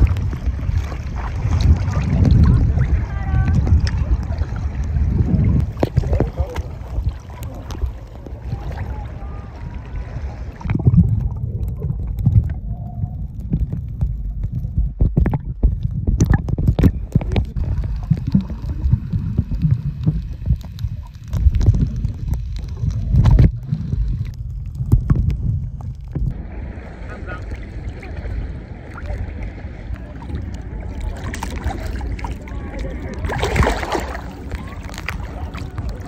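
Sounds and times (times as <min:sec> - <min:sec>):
muffled underwater rumble: 0:00.0 - 0:36.0
water splashing: 0:00.0 - 0:36.0.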